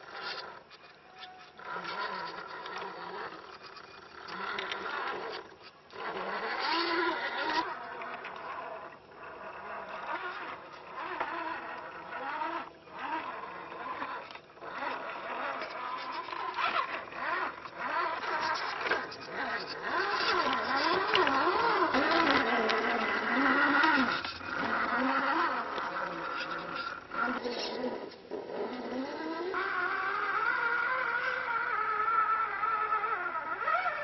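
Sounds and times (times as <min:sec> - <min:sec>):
toy car motor and gears whining: 0:00.0 - 0:34.0.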